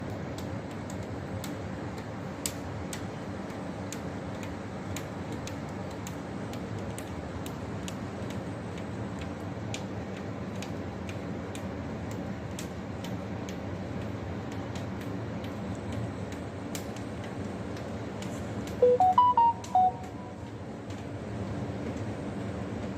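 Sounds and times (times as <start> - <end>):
raindrops ticking close by: 0.0 - 18.8.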